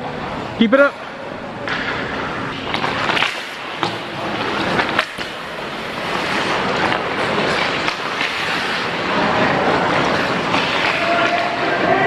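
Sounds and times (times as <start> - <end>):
hockey sticks and puck clacking: 0.8 - 12.0
skate blades scraping ice: 1.7 - 12.0.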